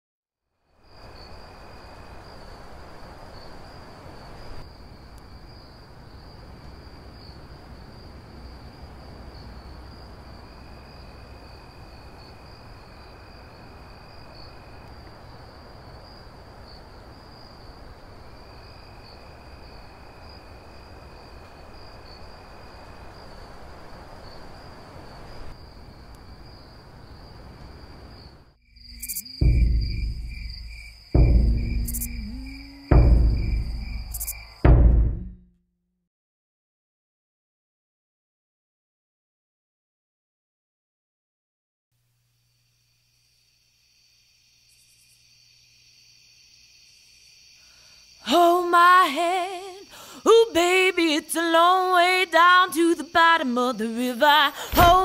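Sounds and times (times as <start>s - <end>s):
lower insect trill: 0.6s - 34.8s, 42.3s - 55.0s
crickets chirping high trill: 0.6s - 34.9s, 42.4s - 55.0s.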